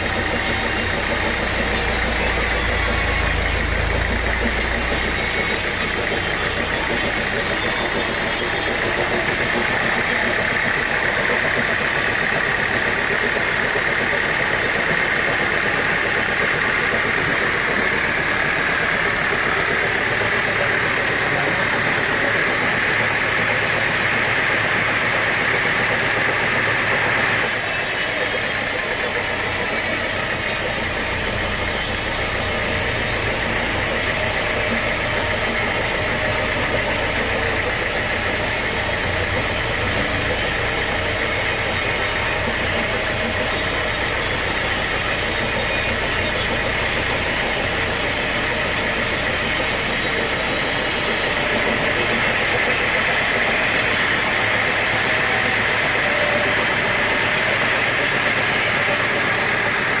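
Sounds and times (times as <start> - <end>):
sawmill machinery drone: 0.0 - 60.0.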